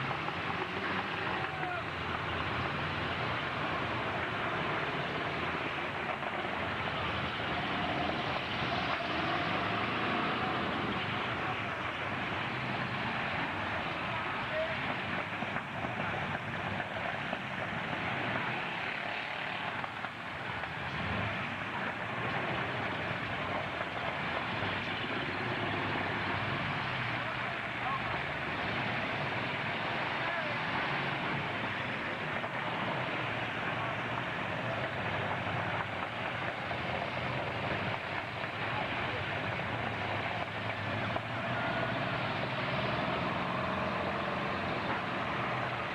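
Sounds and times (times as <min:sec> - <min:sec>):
truck engines running: 0:00.0 - 0:45.9.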